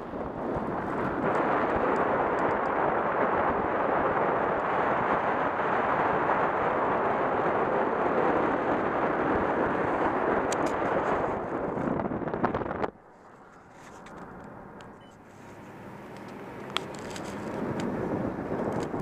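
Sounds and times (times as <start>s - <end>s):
wind and tyre noise from car: 0.0s - 19.0s.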